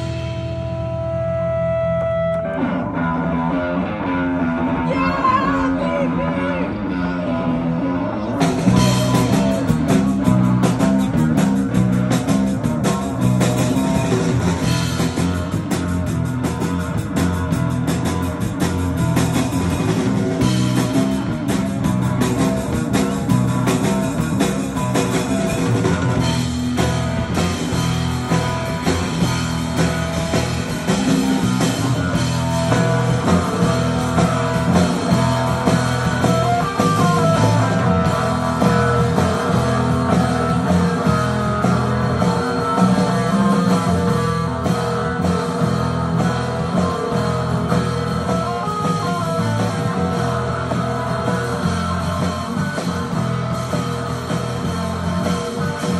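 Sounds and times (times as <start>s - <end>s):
drum kit: 0.0s - 3.9s, 8.3s - 55.9s
electric guitar through amp: 0.0s - 55.9s.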